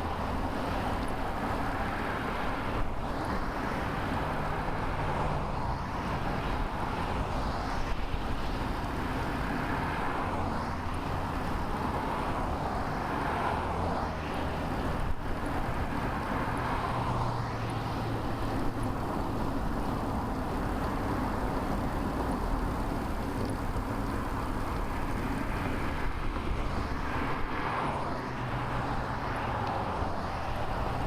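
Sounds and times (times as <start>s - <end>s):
passing motor traffic rumble: 0.0s - 31.0s
wind rushing over microphone: 0.0s - 31.0s.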